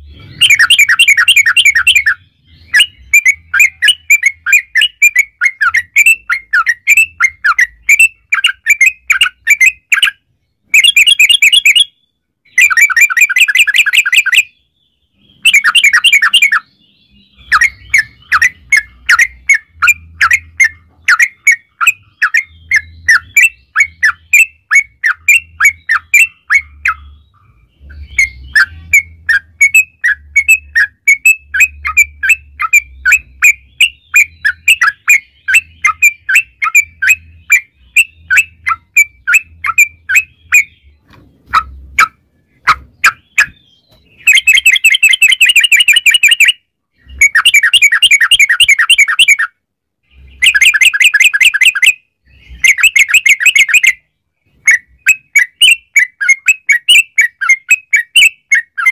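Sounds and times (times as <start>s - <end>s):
bird chattering song: 0.0s - 58.9s.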